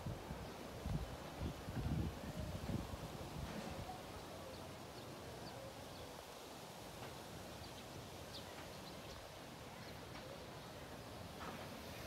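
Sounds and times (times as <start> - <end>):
wind rustling tree leaves: 0.0 - 12.0.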